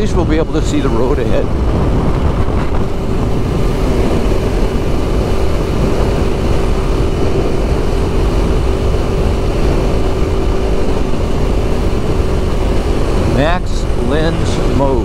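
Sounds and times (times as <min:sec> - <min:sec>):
motorcycle engine steady note: 0:00.0 - 0:15.0
wind buffeting microphone: 0:00.0 - 0:15.0.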